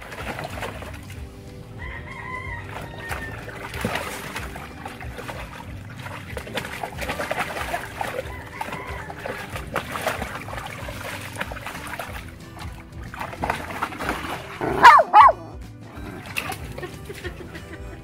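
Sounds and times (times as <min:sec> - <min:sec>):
dog splashing in water: 0:00.0 - 0:18.0.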